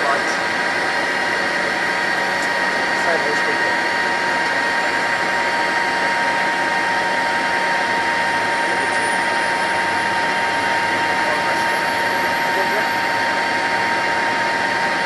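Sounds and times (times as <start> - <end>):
jet engines droning: 0.0 - 15.0
faint high whine rising: 0.1 - 15.0.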